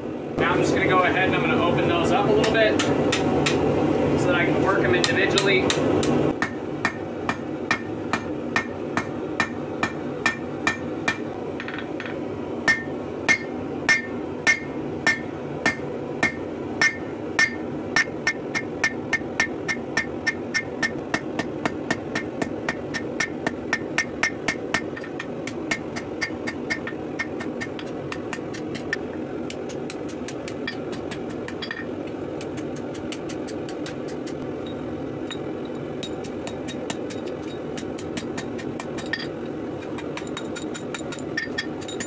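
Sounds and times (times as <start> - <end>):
steady background noise: 0.0 - 42.0
hammer striking metal on anvil: 2.4 - 3.7, 5.0 - 29.0, 29.6 - 31.9, 35.2 - 42.0.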